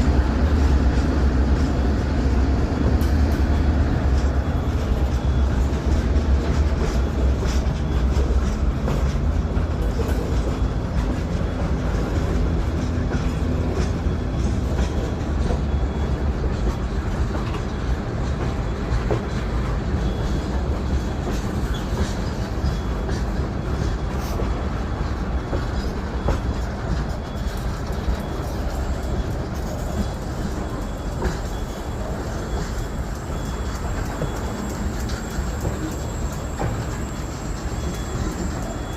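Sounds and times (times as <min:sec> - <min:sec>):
locomotive rumble: 0:00.0 - 0:38.9
wheels clattering on rails: 0:00.0 - 0:38.9.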